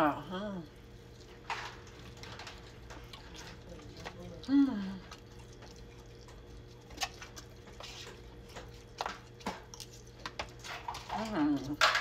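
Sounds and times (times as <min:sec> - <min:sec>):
steady low hum: 0:00.0 - 0:12.0
chewing spaghetti: 0:00.7 - 0:12.0.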